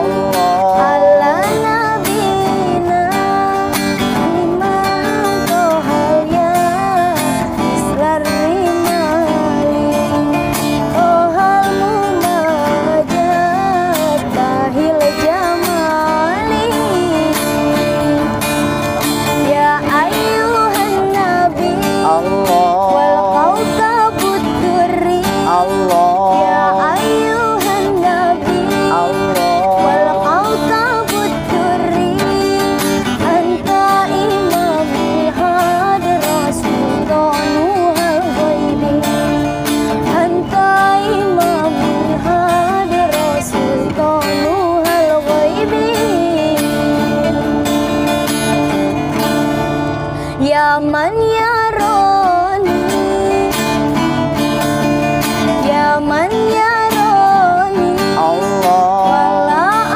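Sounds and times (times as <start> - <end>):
strummed acoustic guitar: 0.0 - 59.9
woman singing: 0.0 - 59.9.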